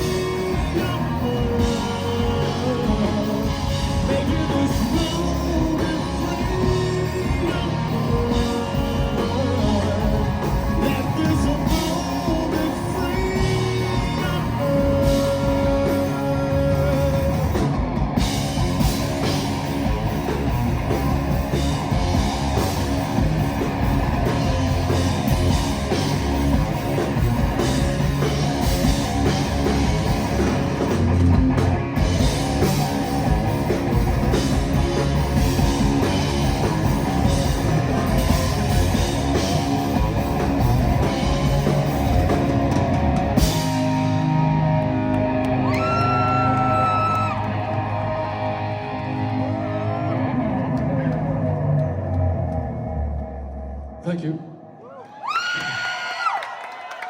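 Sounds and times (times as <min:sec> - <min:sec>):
live rock band instrumental: 0:00.0 - 0:52.6.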